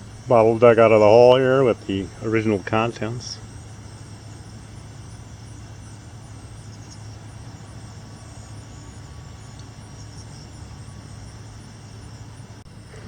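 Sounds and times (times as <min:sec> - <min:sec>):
insects trilling: 0:00.0 - 0:13.0
steady low hum: 0:00.0 - 0:13.0.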